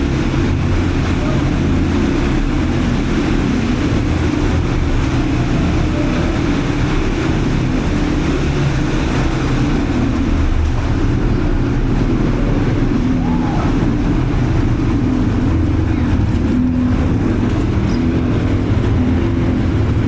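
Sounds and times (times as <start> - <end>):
quad bike engine rumbling: 0.0 - 20.0.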